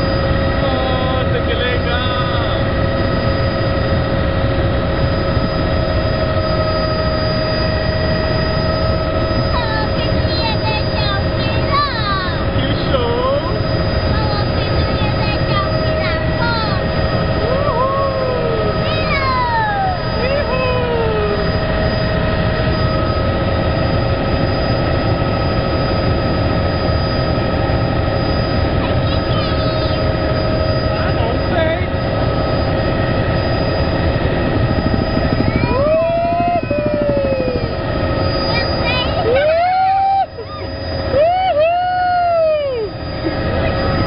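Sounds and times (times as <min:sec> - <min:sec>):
helicopter engine whine: 0:00.0 - 0:44.0
rotor rumble: 0:00.0 - 0:44.0.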